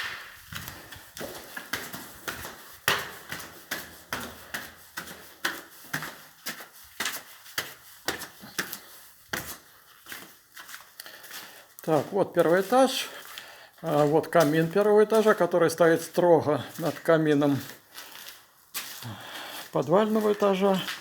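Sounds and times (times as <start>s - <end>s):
footsteps climbing stairs: 0.0s - 17.8s.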